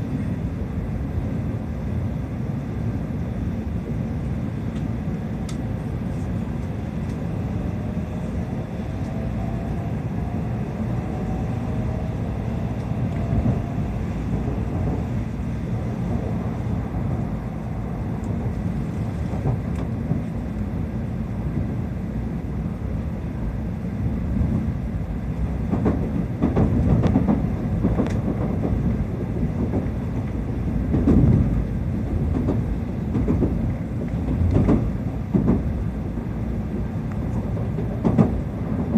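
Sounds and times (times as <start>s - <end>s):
train interior rumble: 0.0s - 38.9s.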